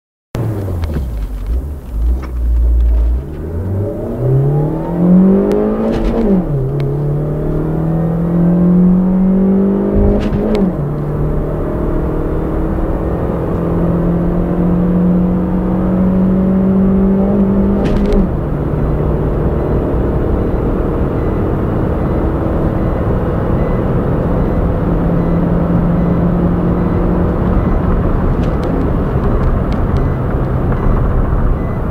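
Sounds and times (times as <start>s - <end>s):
car engine at full throttle: 0.4s - 31.9s.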